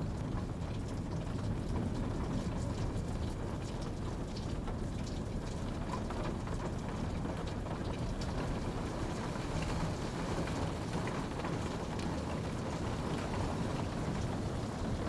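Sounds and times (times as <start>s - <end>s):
steady rain rushing: 0.0s - 15.0s.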